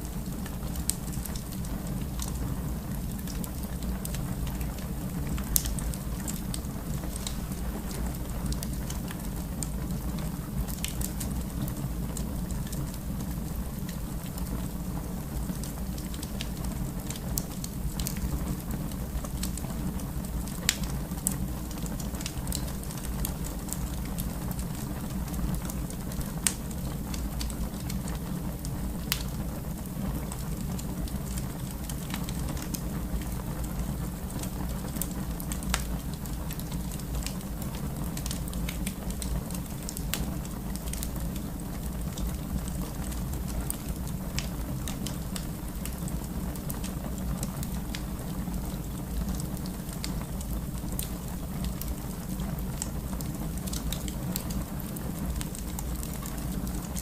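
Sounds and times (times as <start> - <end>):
fire crackling and popping: 0.0 - 57.0
low rumble of flames: 0.0 - 57.0.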